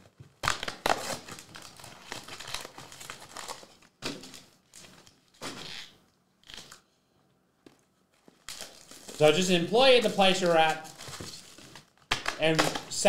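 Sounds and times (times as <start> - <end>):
foil wrappers crinkling: 0.0 - 6.8, 7.8 - 13.0.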